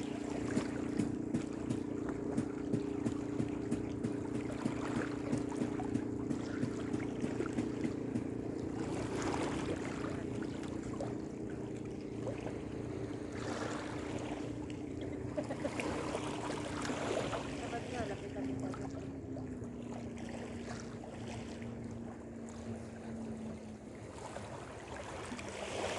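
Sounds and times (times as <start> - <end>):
small boat engine running: 0.0 - 25.9
water washing against hull: 0.0 - 25.9.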